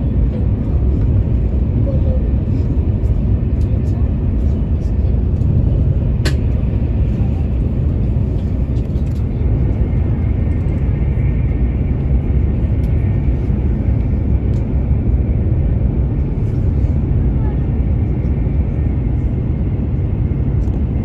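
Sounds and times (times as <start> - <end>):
train rumble inside carriage: 0.0 - 21.0.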